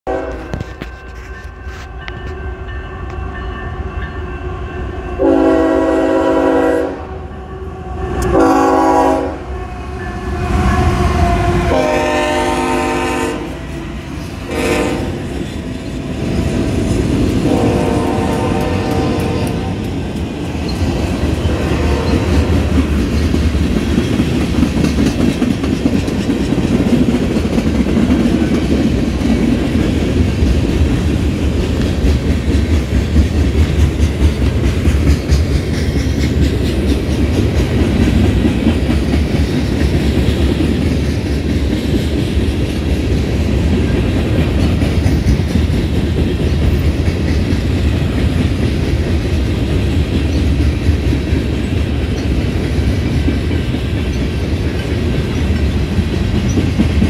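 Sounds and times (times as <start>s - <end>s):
train wheels rumbling on rails: 0.1s - 57.0s.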